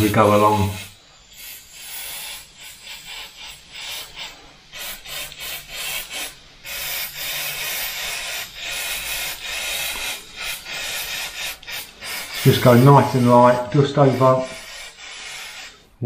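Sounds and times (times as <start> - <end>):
airbrush air hissing: 0.0 - 16.0.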